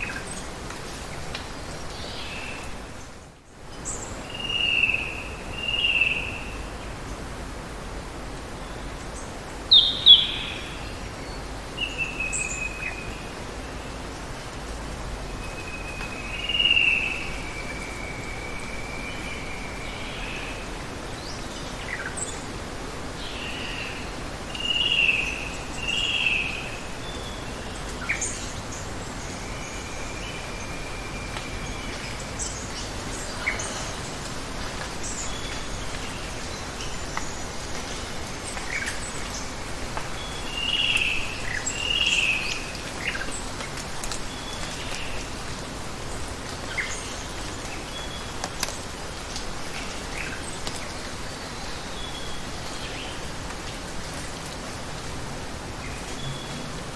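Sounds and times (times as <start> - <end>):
running water hiss: 0.0 - 56.9.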